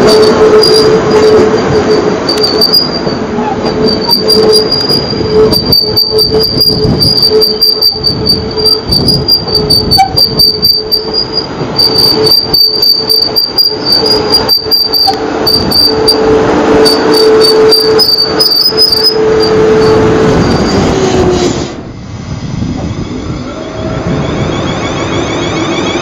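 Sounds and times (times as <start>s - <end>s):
electric train rolling past: 0.0s - 26.0s.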